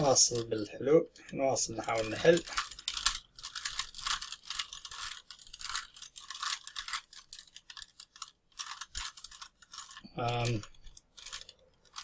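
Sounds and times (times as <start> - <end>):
puzzle cube twisting clicks: 1.8 - 12.0.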